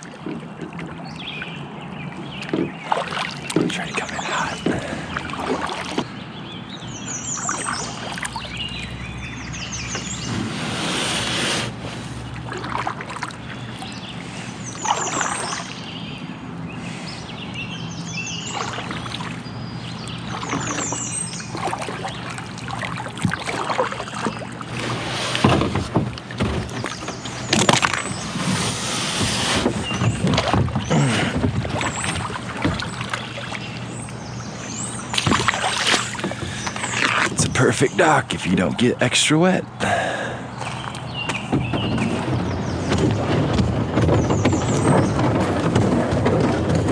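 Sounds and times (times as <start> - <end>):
kayak paddle strokes splashing: 0.0 - 16.2, 16.8 - 38.9, 40.5 - 46.9
water sloshing against hull: 0.0 - 46.9.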